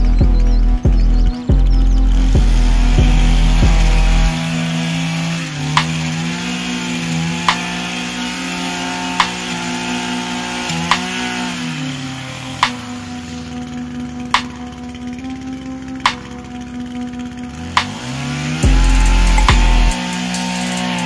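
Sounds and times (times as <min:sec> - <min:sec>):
hedge trimmer engine running: 0:00.0 - 0:21.0
hip-hop music: 0:00.0 - 0:21.0.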